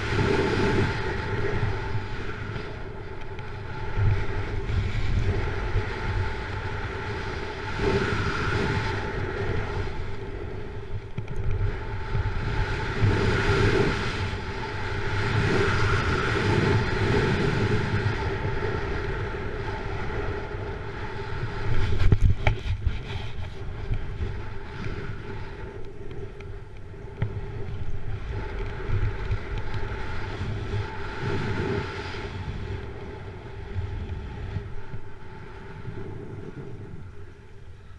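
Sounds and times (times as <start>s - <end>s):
snowboard carving on snow: 0.0s - 11.0s, 11.6s - 26.3s, 27.0s - 37.3s
wind on microphone: 0.0s - 37.9s.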